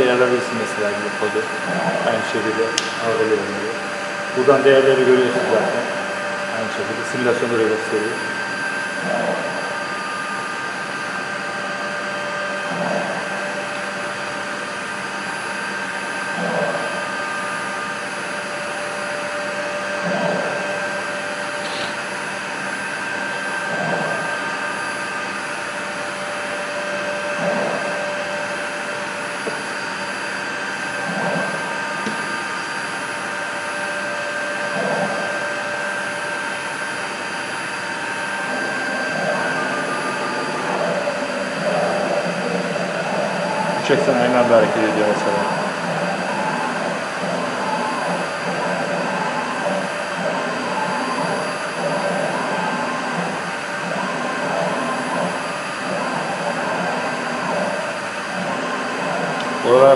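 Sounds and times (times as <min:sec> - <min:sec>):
router motor whine: 0:00.0 - 0:59.9.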